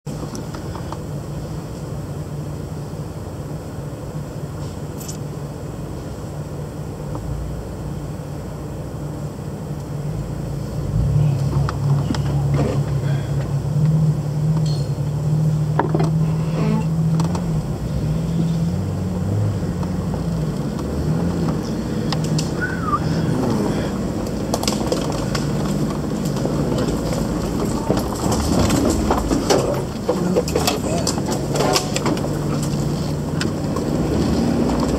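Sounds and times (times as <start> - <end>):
vehicle engine crawling: 0.1 - 34.9.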